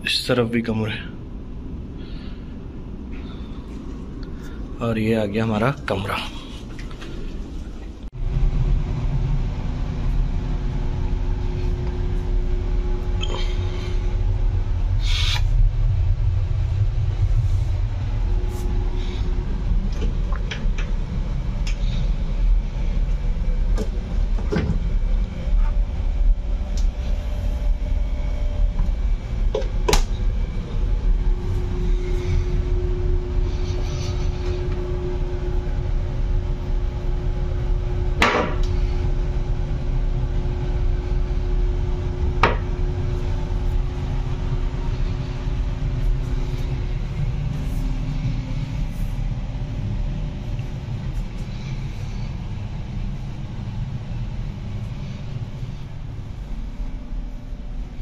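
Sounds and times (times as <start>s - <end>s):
faint steady hum: 0.0s - 58.0s
low room rumble: 0.0s - 58.0s.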